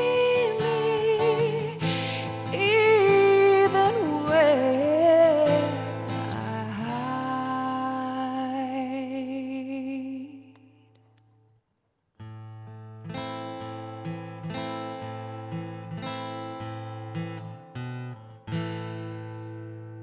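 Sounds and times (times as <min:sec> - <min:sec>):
acoustic guitar strumming: 0:00.0 - 0:09.1, 0:12.2 - 0:20.0.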